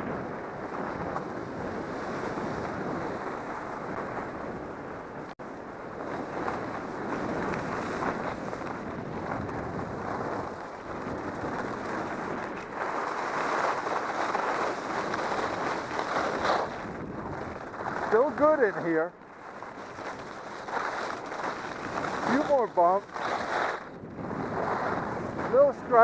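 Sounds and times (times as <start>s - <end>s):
skis scraping over snow: 0.0s - 26.0s
wind rushing over microphone: 0.0s - 26.0s.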